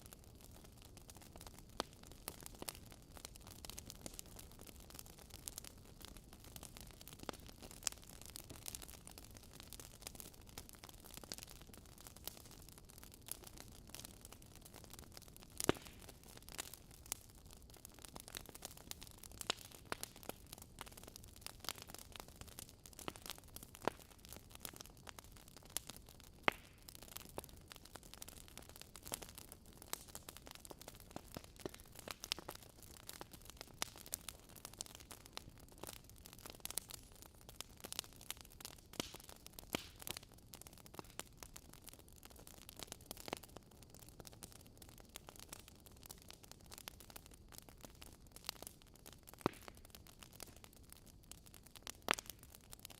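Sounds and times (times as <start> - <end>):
logs crackling in fireplace: 0.0 - 52.9.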